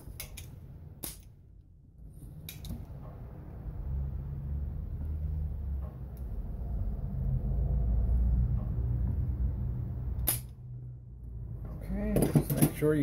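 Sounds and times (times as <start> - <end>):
low rumble: 0.5 - 11.9.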